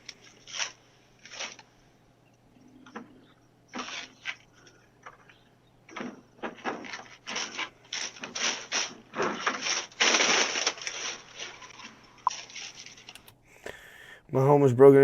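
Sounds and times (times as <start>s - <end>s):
rustling and scraping: 0.0s - 1.9s, 2.7s - 13.2s.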